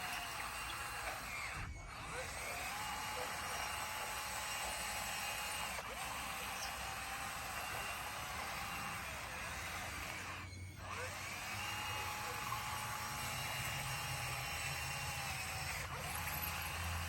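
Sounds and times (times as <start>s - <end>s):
bulldozer machine whine: 0.0s - 17.0s.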